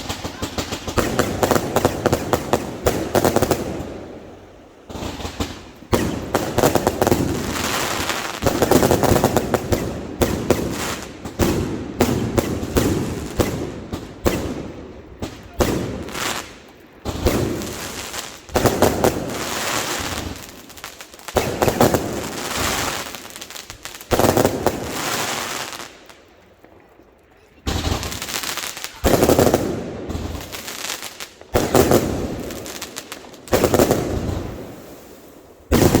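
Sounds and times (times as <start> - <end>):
fireworks banging: 0.0 - 26.0, 27.6 - 36.0
fireworks crackling: 0.0 - 26.8, 27.5 - 36.0.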